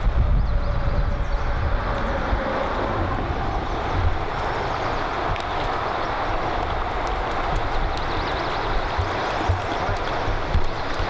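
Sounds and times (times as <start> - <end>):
flowing river water: 0.0 - 11.0
wind buffeting microphone: 0.0 - 11.0.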